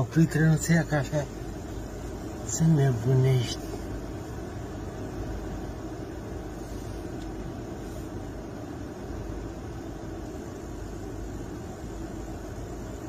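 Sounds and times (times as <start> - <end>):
idling engine rumble: 0.0 - 13.0.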